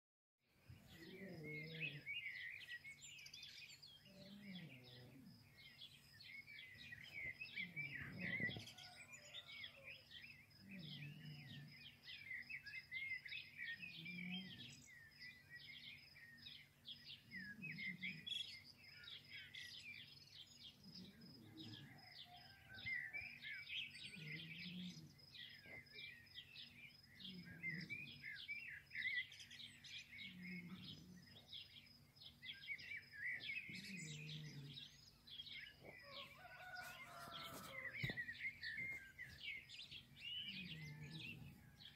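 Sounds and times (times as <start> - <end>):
small birds chirping: 0.5 - 41.9.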